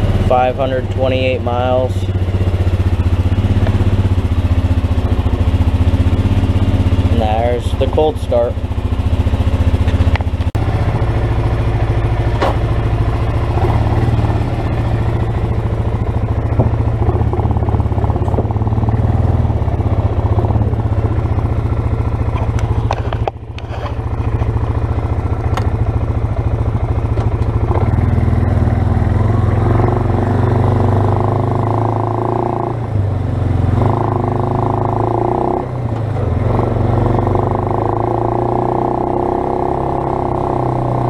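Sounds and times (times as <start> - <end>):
atv engine idling: 0.0 - 41.0.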